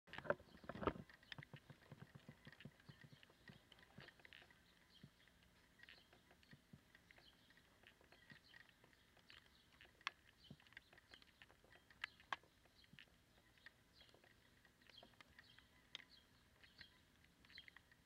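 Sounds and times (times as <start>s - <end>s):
faint irregular clicks: 0.1s - 18.0s.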